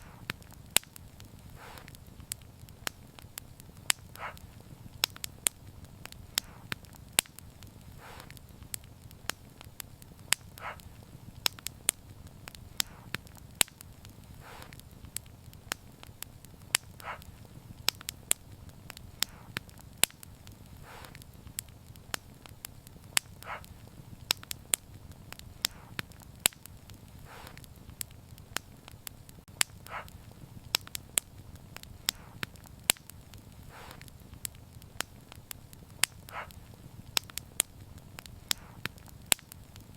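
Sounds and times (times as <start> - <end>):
hissing puffs: 0.0 - 39.9
wood fire crackling: 0.0 - 39.9.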